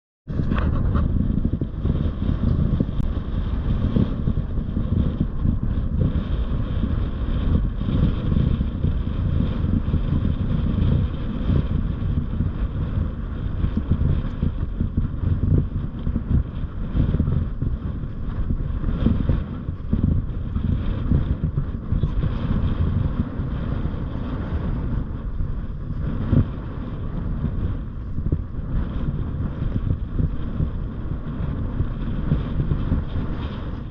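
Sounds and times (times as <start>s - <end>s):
wind buffeting microphone: 0.3s - 33.9s.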